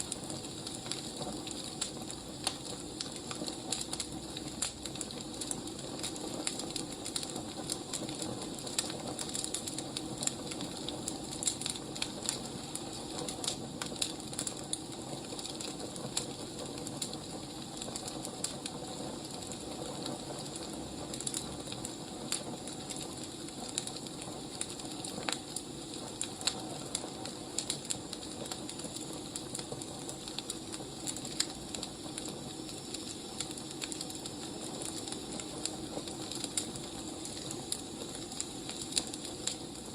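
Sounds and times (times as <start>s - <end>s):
fire hiss: 0.0s - 39.9s
wood fire crackling and popping: 0.0s - 39.9s.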